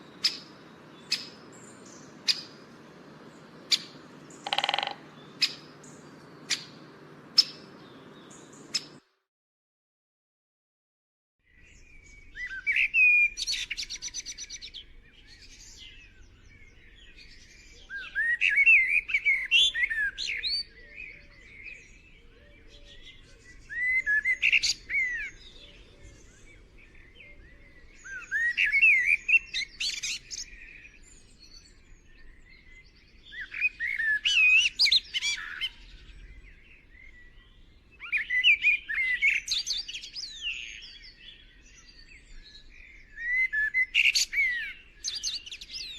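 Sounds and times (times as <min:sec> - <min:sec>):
bird twittering high chirps: 0:00.0 - 0:09.0, 0:11.5 - 0:45.9.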